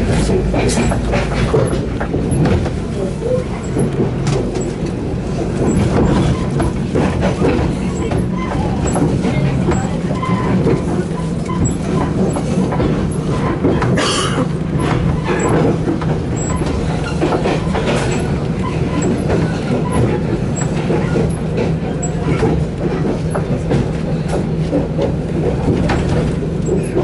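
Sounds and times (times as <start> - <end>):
train rumble inside carriage: 0.0 - 27.0
wheels clicking over rail joints: 0.0 - 27.0.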